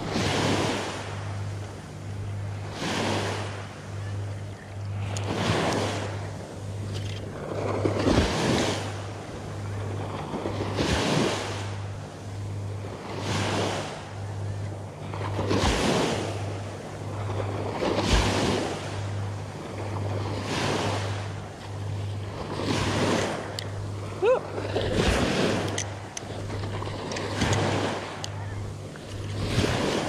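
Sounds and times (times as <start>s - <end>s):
small waves washing on sand: 0.0s - 1.8s, 2.5s - 4.0s, 4.9s - 30.0s
low hum: 0.0s - 30.0s.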